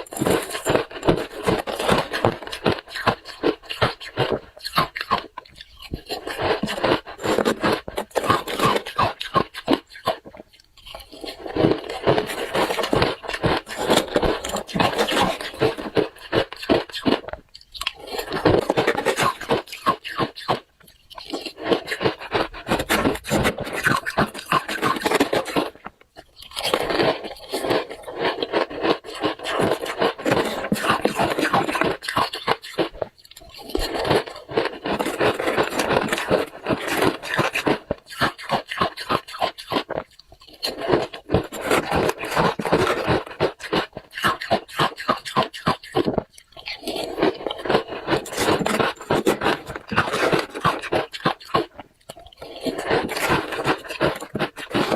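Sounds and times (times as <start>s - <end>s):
crunching ice chewing: 0.0s - 54.9s.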